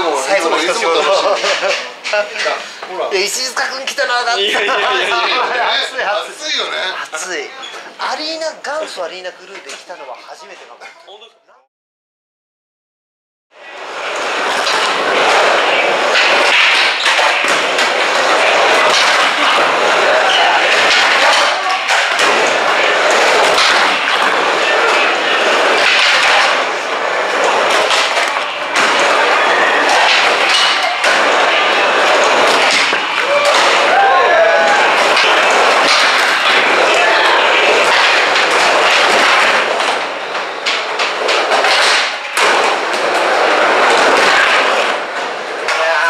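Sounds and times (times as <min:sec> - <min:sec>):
skateboard wheels rolling on ramp: 0:00.0 - 0:10.0, 0:13.6 - 0:46.0.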